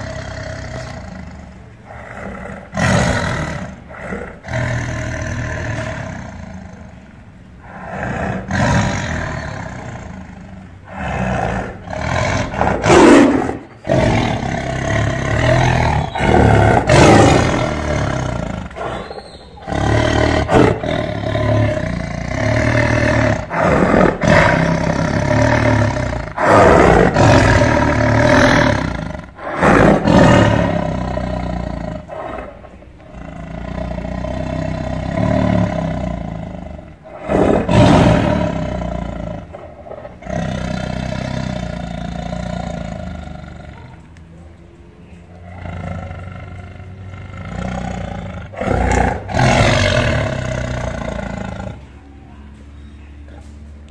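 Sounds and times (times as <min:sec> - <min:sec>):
tiger roaring and growling: 0:00.0 - 0:52.6.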